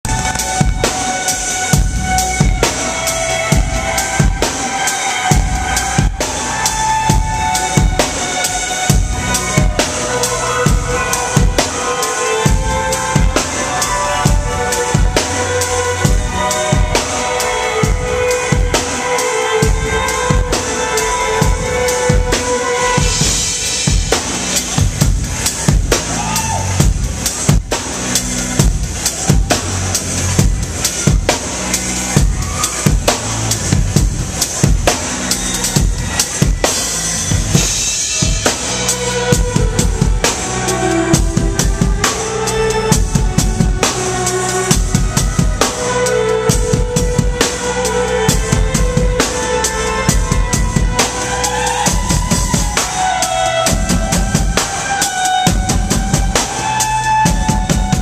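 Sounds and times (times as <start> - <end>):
acoustic drum kit dance beat: 0.0 - 58.0.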